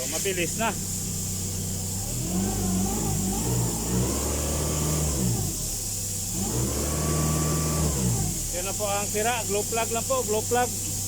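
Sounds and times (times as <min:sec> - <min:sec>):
diesel engine revving: 0:00.0 - 0:11.0.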